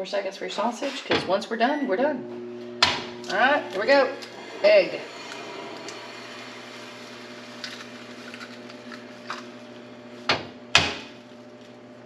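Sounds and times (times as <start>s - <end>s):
microwave oven humming: 1.3s - 12.0s.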